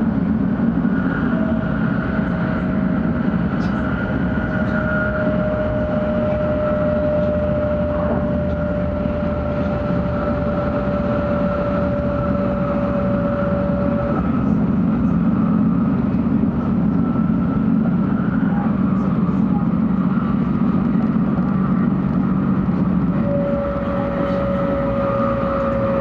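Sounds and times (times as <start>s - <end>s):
thin steady whine: 0.0s - 26.0s
train cabin rumble: 0.0s - 26.0s.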